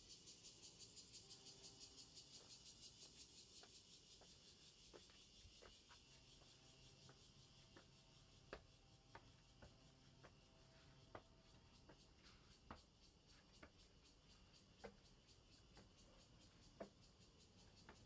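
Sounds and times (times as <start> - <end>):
footsteps on stone steps: 2.4 - 18.0.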